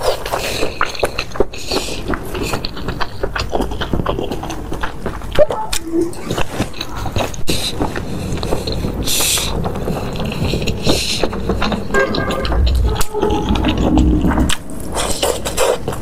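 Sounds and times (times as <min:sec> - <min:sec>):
chewing with wet clicks: 0:00.0 - 0:16.0.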